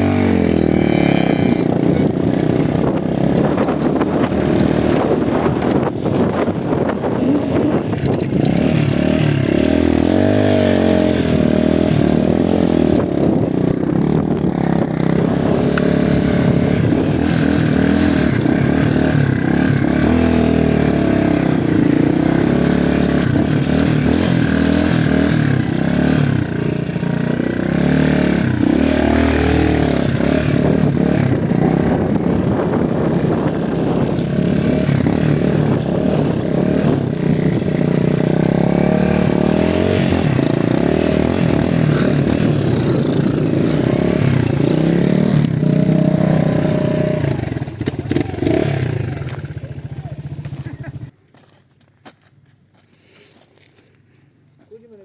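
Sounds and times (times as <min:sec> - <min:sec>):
motorcycle engine revving: 0:00.0 - 0:51.2.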